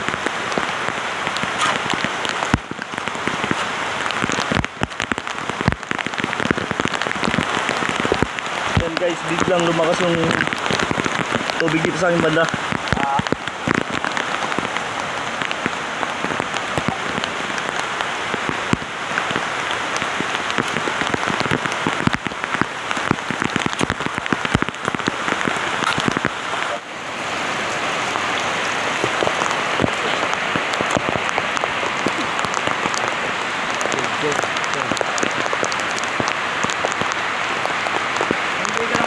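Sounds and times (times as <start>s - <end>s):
heavy rain falling: 0.0s - 39.0s
raindrops striking close: 0.0s - 39.0s.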